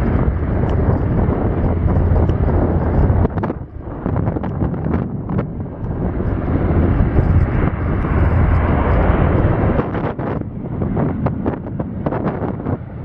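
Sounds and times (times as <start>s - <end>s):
turboprop engines running: 0.0s - 13.0s
wind buffeting microphone: 0.0s - 13.0s.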